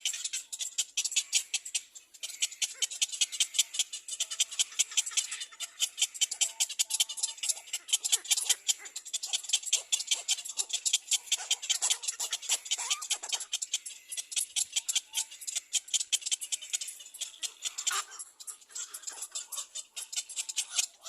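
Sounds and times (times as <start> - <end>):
birds chirping rapidly: 0.0 - 21.0.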